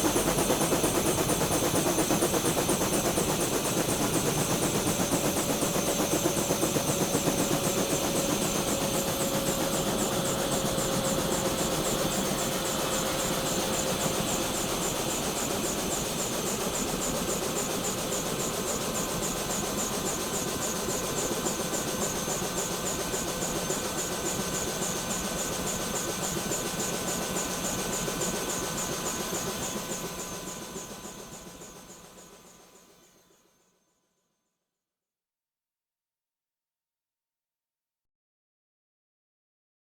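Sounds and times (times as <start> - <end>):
helicopter turbines and rotor: 0.0 - 33.6.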